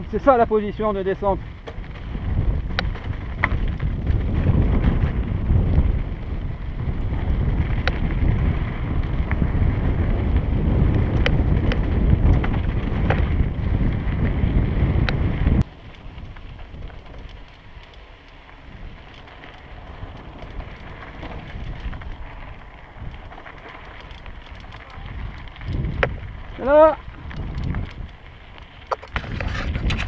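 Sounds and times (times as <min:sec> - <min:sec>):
bike tyres rumbling on dirt: 0:00.0 - 0:30.0
gravel ticks and bike rattle: 0:00.0 - 0:30.0
wind buffeting microphone: 0:00.0 - 0:30.0.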